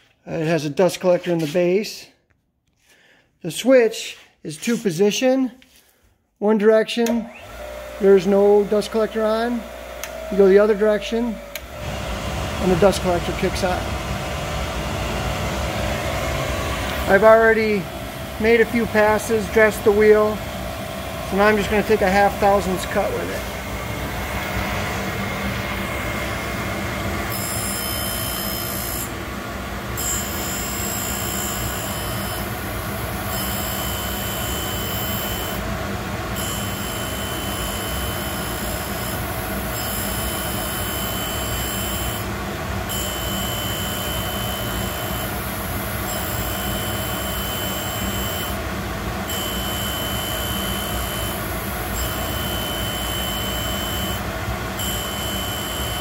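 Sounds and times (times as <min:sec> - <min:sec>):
motor hum: 0:07.2 - 0:56.0
grinding wheel whine on steel: 0:07.4 - 0:56.0.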